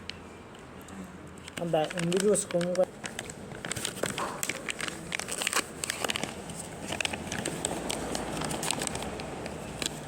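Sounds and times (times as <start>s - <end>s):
plastic packet crinkling: 1.4s - 10.0s.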